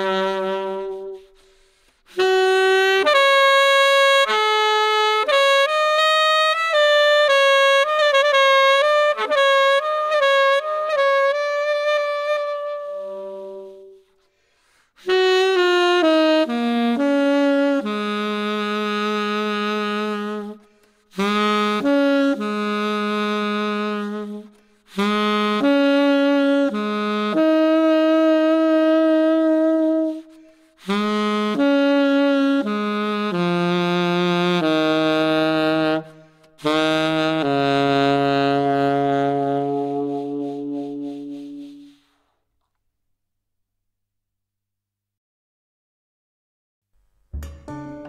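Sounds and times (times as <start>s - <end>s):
tenor saxophone playing held notes: 0.0s - 14.2s, 15.0s - 42.0s.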